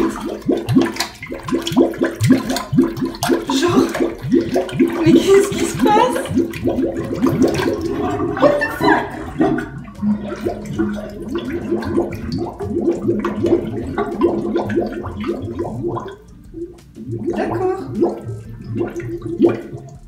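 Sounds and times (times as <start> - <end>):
toilet bowl gurgling: 0.0 - 20.0.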